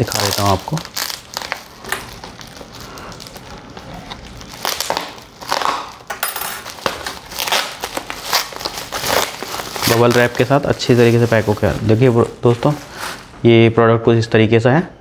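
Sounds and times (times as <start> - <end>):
bubble wrap crinkling: 0.0 - 13.4.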